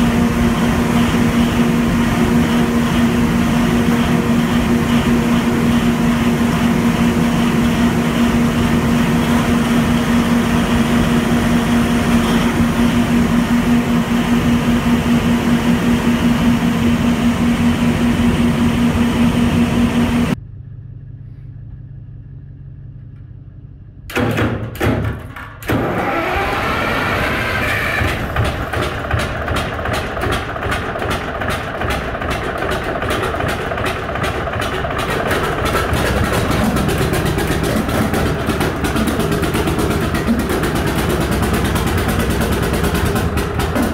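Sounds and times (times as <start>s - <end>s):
diesel generator humming: 0.0s - 24.8s, 25.6s - 43.9s
diesel engine cranking and starting: 0.0s - 43.9s.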